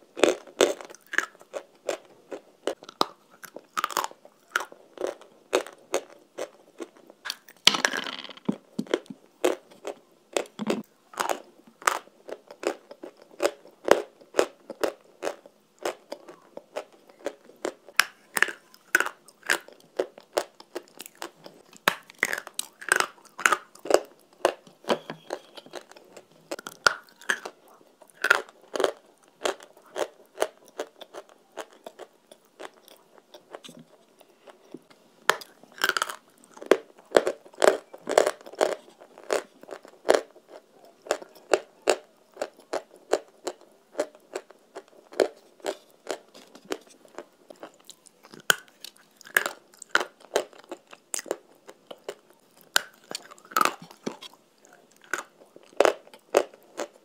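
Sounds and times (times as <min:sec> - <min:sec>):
person crunching hard food: 0:00.0 - 0:34.7, 0:35.3 - 0:57.0.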